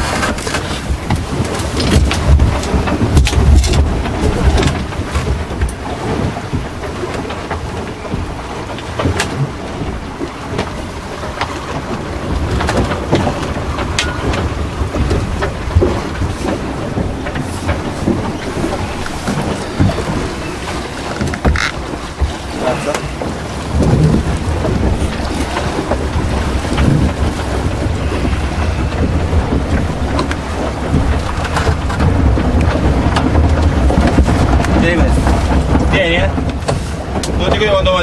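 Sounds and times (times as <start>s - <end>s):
gear knocking and clattering: 0.0s - 38.0s
rushing water: 0.0s - 38.0s
wind buffeting microphone: 0.0s - 38.0s.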